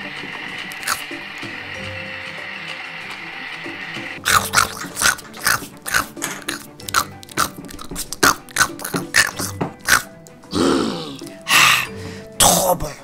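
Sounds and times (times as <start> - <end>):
exaggerated chomping and chewing: 0.0 - 11.9.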